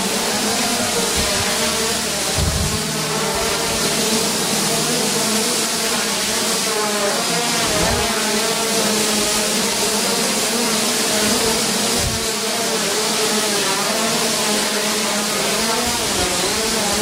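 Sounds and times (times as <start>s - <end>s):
quadcopter hovering whirring buzz: 0.0s - 17.0s.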